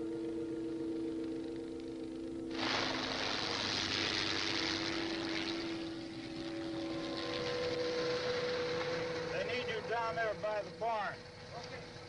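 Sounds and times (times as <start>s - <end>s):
car engine running: 0.0s - 12.0s
steady low hum: 0.0s - 12.0s.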